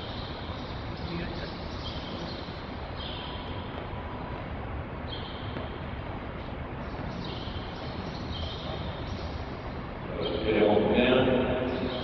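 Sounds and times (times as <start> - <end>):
background hiss and hall noise: 0.0 - 12.0.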